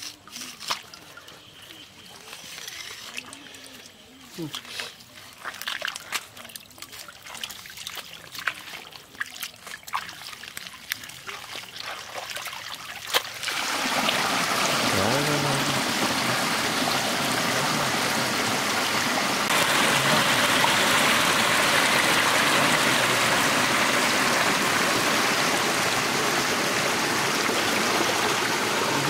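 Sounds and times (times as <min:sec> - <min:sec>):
muddy water gushing: 0:02.6 - 0:29.0.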